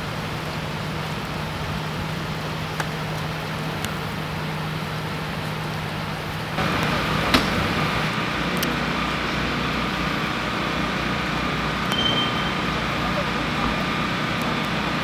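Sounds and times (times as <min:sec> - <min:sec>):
fire engines rumbling: 0:00.0 - 0:15.0.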